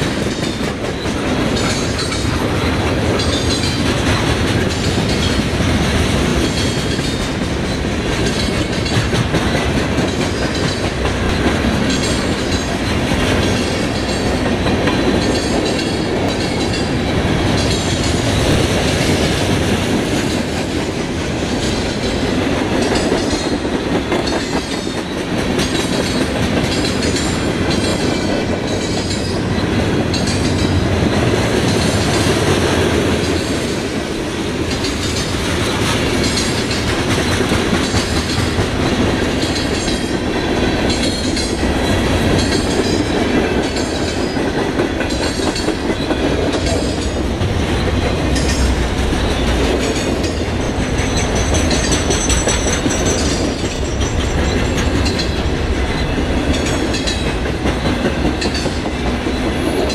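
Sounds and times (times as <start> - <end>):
train wheels rumbling on rail: 0.0 - 59.9
wheels clickety-clack on rail joints: 0.0 - 59.9.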